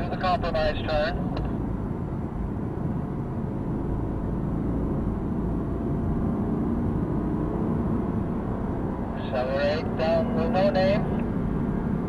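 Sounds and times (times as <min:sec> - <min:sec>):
car engine from inside cabin: 0:00.0 - 0:12.0
tyre road noise: 0:00.0 - 0:12.0.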